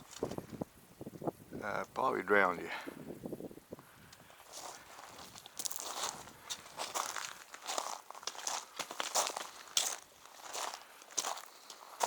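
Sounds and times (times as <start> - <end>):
faint footsteps on trail: 0.0 - 2.0, 2.6 - 12.0.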